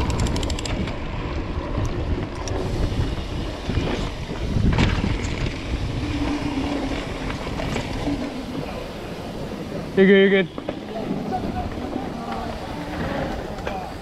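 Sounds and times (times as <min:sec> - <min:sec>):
mountain bike rolling on dirt: 0:00.0 - 0:14.0
wind buffeting microphone: 0:00.0 - 0:14.0.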